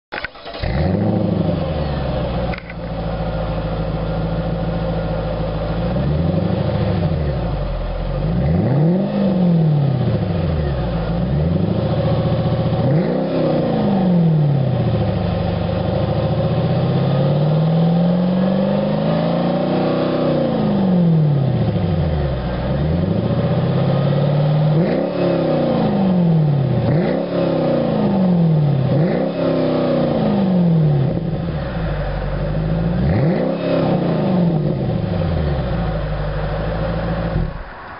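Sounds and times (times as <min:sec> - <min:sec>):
car engine revving: 0:00.2 - 0:37.9.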